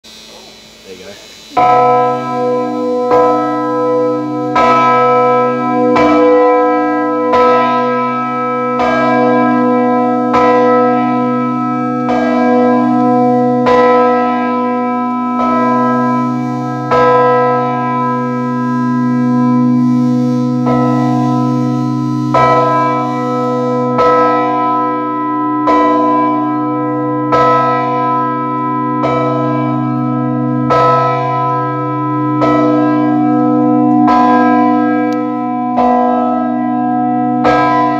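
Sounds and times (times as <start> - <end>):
church bell ringing: 1.5 - 37.9.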